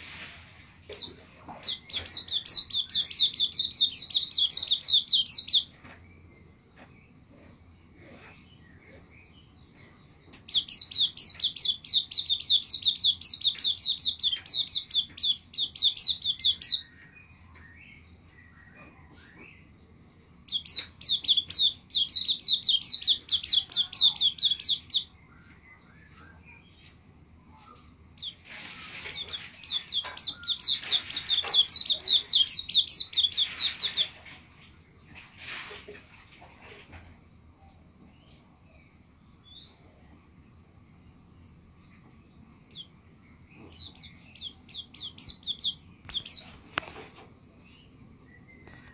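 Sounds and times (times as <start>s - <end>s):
bird chirping song: 0.9s - 35.8s, 36.9s - 48.9s.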